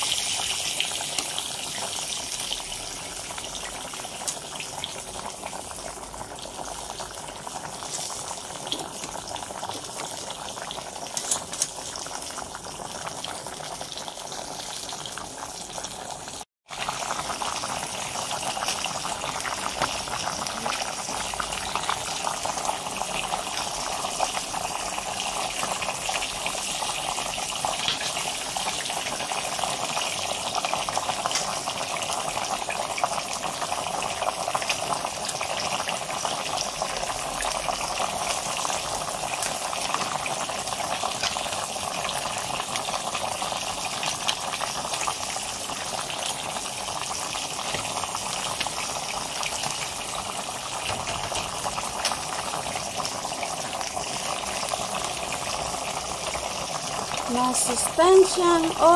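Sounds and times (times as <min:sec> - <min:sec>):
soup boiling with bubbling hiss: 0:00.0 - 0:58.9.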